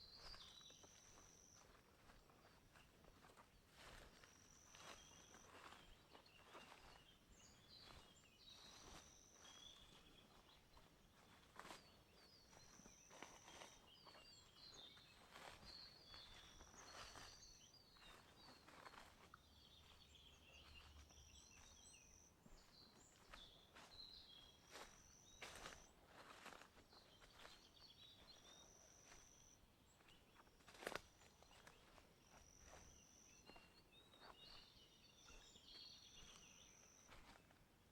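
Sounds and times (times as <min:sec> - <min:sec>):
footsteps on forest path: 0:00.0 - 0:37.9
songbird singing: 0:00.0 - 0:37.9.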